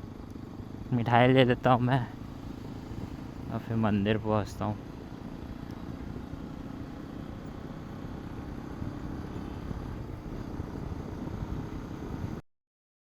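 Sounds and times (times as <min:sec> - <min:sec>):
motorcycle engine rumble: 0:00.0 - 0:12.4.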